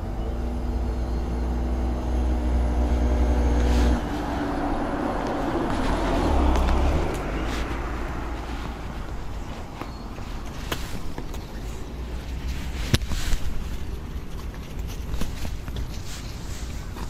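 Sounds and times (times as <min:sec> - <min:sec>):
engine hum: 0:00.0 - 0:17.0
low traffic rumble: 0:00.0 - 0:17.0
vehicle passing: 0:00.0 - 0:17.0.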